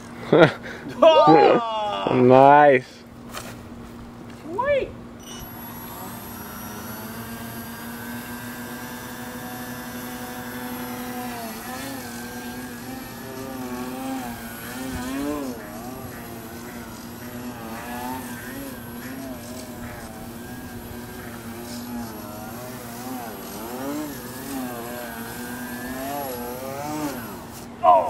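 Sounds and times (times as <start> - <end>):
model airplane propeller buzzing: 5.1 - 28.0.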